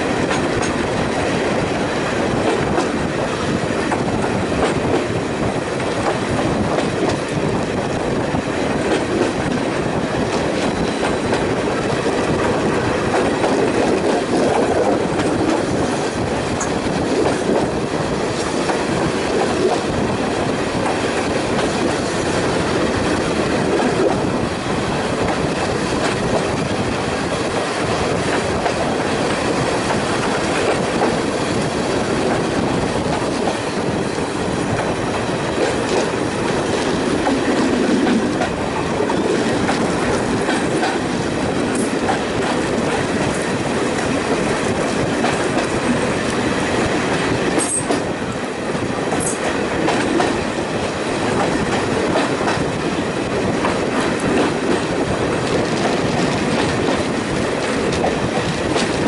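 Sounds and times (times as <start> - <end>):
train engine: 0.0 - 59.0
train wheels rumbling on rails: 0.0 - 59.0.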